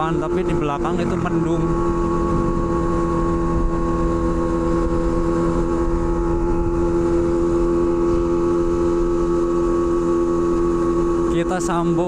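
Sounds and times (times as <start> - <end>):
wind rushing over microphone: 0.0 - 11.4
motorcycle engine cruising: 0.0 - 12.0.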